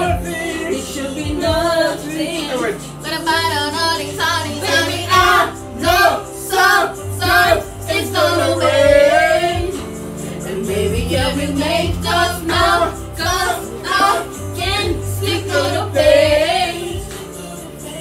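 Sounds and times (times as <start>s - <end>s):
song with lead vocal: 0.0s - 18.0s
steady bass line: 0.0s - 18.0s.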